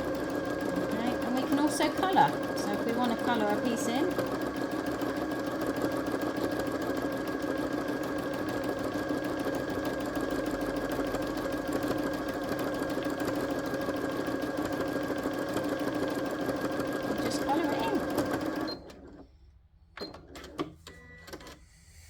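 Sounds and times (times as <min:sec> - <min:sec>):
sewing machine stitching: 0:00.0 - 0:19.2.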